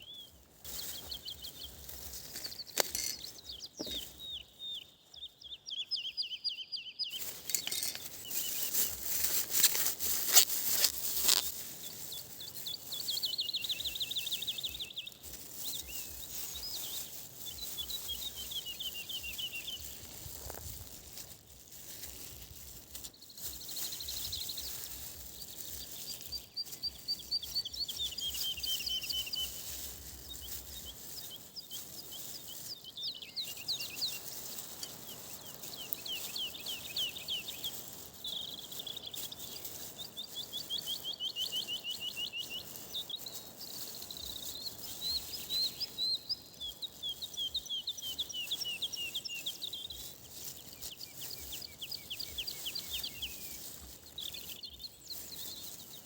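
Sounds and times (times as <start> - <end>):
songbirds trilling: 0.0 - 56.0.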